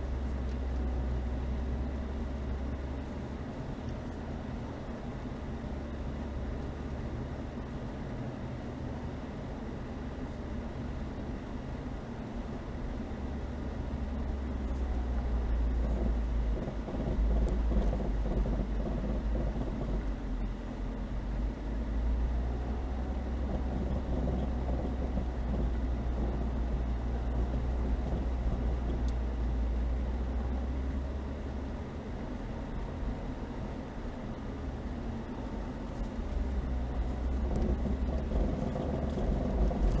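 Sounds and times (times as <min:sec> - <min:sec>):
car engine under load: 0:00.0 - 0:40.0.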